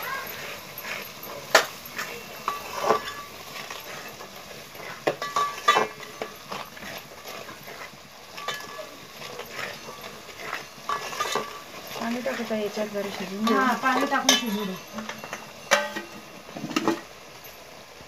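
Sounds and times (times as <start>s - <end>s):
spices sizzling in oil: 0.0s - 18.0s.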